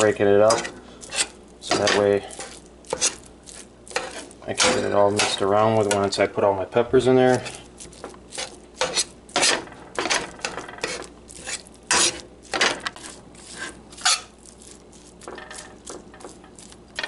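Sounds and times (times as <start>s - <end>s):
utensil scraping frying pan: 0.0s - 6.2s, 7.2s - 17.0s.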